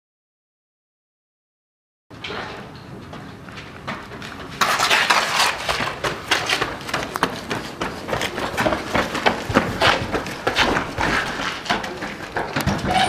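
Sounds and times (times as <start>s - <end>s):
people running on pavement: 2.5s - 13.0s.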